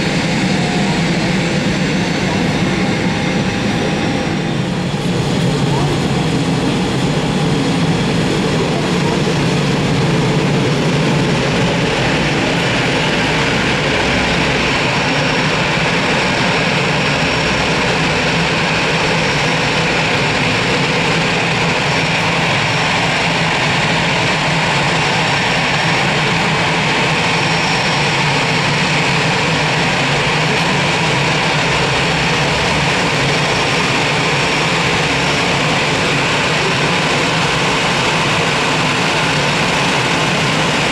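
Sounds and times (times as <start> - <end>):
faint high whine: 0.0 - 40.9
jet engines rushing: 0.0 - 40.9.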